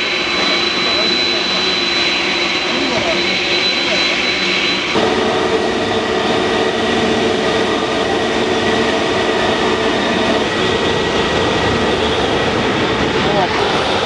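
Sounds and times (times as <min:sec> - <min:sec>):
high engine whine: 0:00.0 - 0:14.0
jet engines idling: 0:00.0 - 0:14.0.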